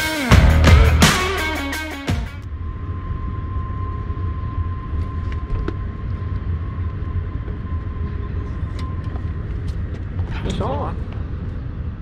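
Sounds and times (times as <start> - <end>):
freight train rumble: 0.0 - 12.0
high whine: 0.0 - 12.0.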